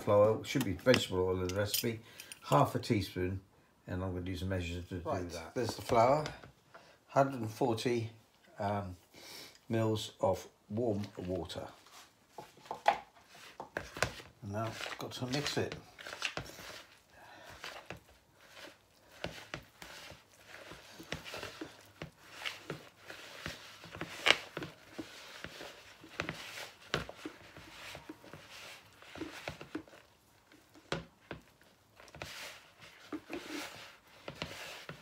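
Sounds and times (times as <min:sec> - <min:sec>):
dough rustling and scraping: 0:00.0 - 0:02.0, 0:04.6 - 0:06.6, 0:10.2 - 0:35.0.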